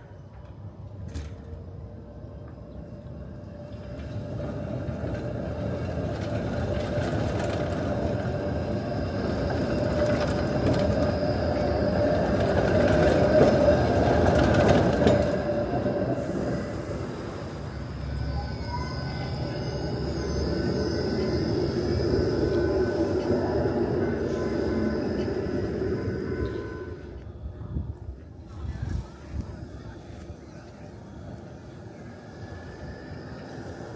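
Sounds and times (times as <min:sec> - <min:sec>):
tram wheels rumbling on rails: 0:00.0 - 0:33.9
steady whining tone: 0:01.3 - 0:33.9.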